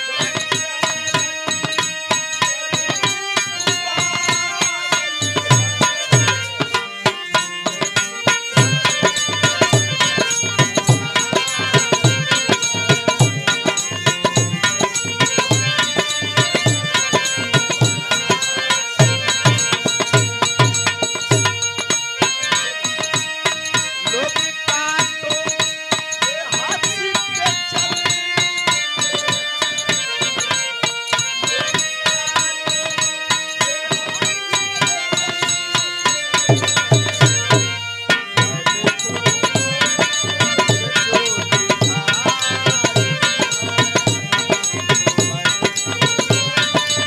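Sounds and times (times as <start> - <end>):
harmonium melody: 0.0 - 47.0.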